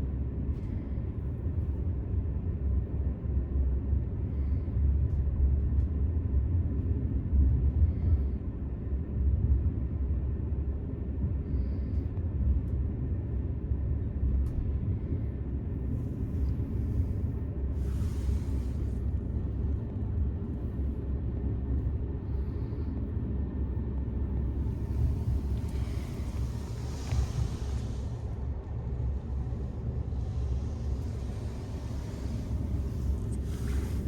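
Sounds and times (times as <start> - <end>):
train rumbling on track: 0.0 - 34.0.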